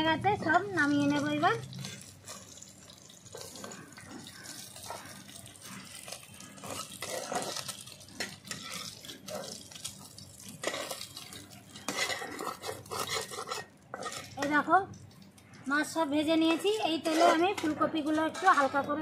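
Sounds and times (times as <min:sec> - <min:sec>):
fish sizzling in hot oil: 0:00.1 - 0:15.4
spatula clinking on metal: 0:00.4 - 0:14.6, 0:16.4 - 0:19.0
metal spatula scraping a pan: 0:00.4 - 0:14.7, 0:16.3 - 0:19.0.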